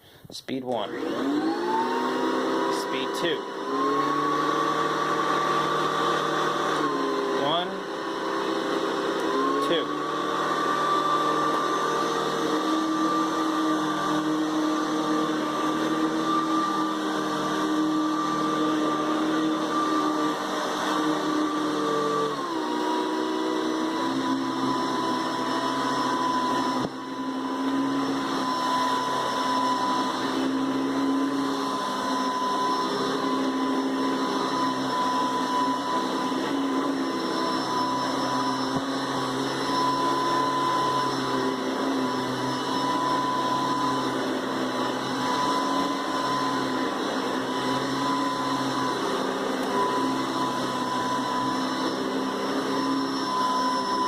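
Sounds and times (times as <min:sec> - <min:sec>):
upright vacuum cleaner running: 0:00.7 - 0:54.0.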